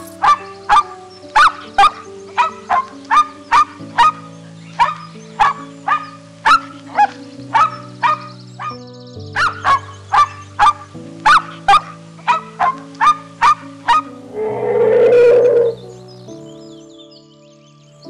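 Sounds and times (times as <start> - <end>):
background music with low chords: 0.0 - 18.0.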